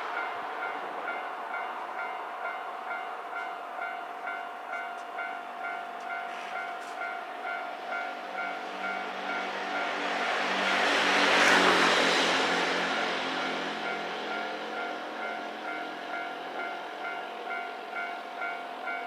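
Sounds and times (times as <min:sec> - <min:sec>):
level-crossing warning bell: 0:00.0 - 0:19.0.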